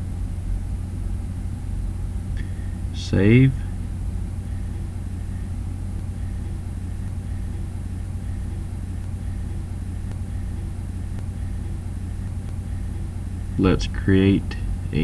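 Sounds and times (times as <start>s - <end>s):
low hum with faint hiss: 0.0s - 15.0s.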